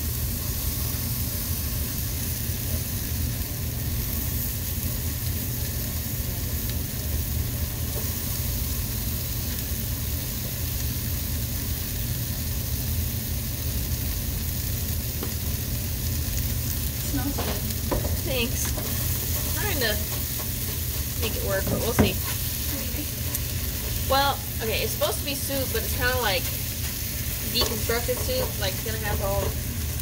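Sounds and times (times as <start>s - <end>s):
low steady hum: 0.0s - 30.0s
onions sizzling in a pan: 0.0s - 30.0s.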